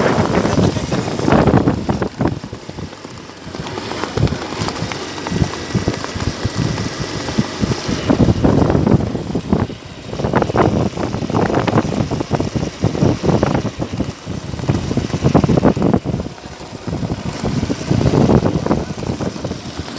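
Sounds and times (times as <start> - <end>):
vehicle engine running: 0.0 - 19.9
wind buffeting microphone: 0.0 - 19.9.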